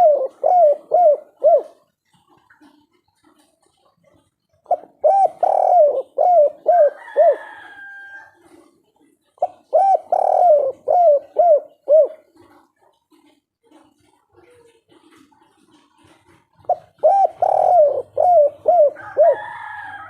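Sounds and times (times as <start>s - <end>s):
dove cooing: 0.0s - 3.4s, 4.1s - 13.8s, 15.0s - 20.0s.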